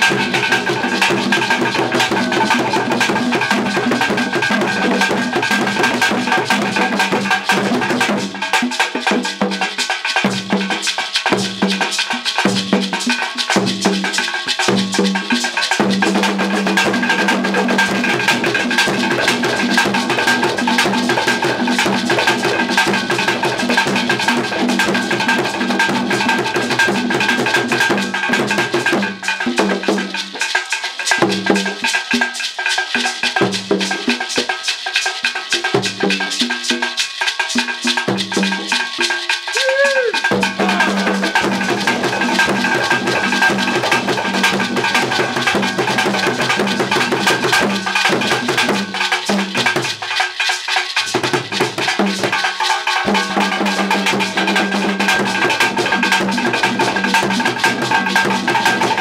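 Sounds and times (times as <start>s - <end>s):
fast percussion music: 0.0s - 59.0s.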